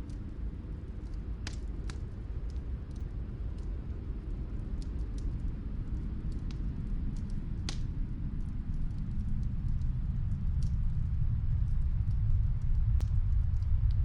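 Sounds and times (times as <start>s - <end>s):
snowstorm wind rumble: 0.0s - 14.0s
wood fire crackling: 0.0s - 14.0s.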